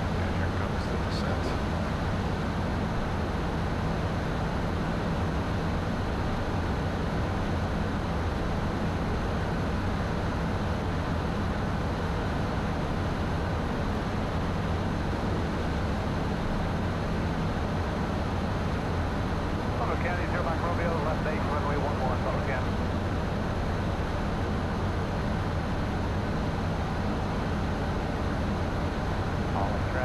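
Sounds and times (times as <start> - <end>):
jet engines humming: 0.0 - 30.0.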